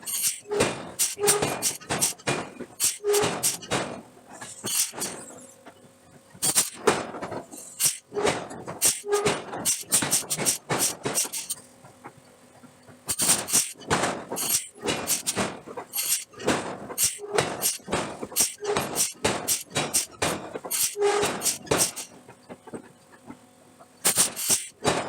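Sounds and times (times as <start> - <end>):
forging blows on hot steel: 0.0 - 5.4, 6.4 - 11.6, 13.1 - 22.2, 24.0 - 25.0.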